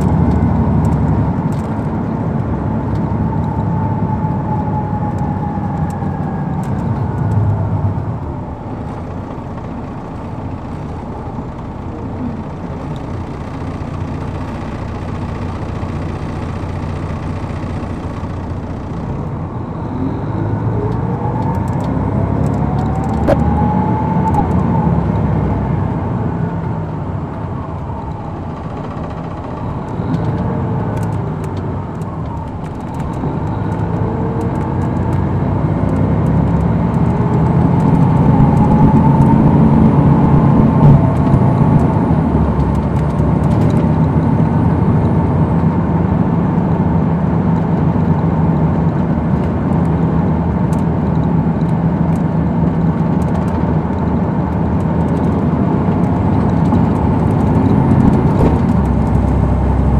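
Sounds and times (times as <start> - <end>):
coach engine running from inside: 0.0 - 59.9.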